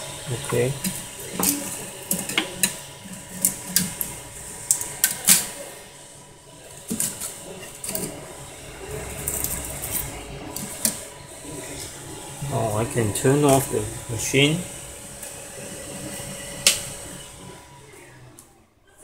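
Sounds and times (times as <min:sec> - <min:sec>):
printer mechanism clicking and whirring: 0:00.0 - 0:18.6
steady low hum: 0:00.0 - 0:19.0.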